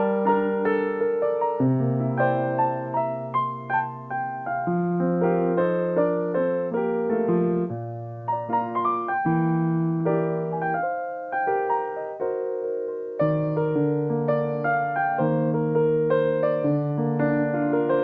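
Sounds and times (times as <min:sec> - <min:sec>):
slow gentle piano melody: 0:00.0 - 0:18.0.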